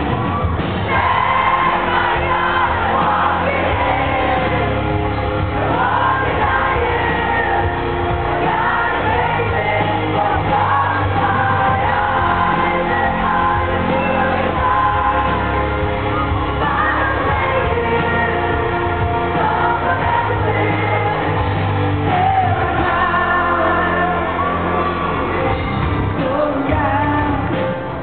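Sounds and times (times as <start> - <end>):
electric guitars: 0.0 - 28.0
metal band playing live: 0.0 - 28.0
woman singing: 5.5 - 28.0.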